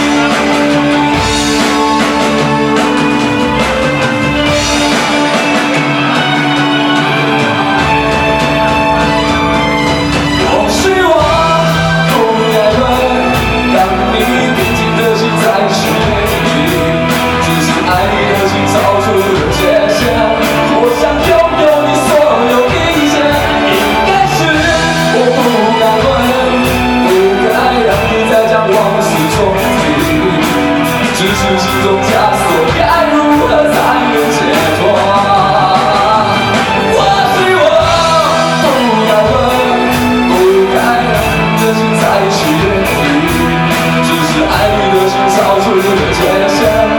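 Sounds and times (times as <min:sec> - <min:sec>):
drum kit cymbal beat: 0:00.0 - 0:46.9
melodic line: 0:00.0 - 0:46.9
person singing: 0:00.0 - 0:46.9.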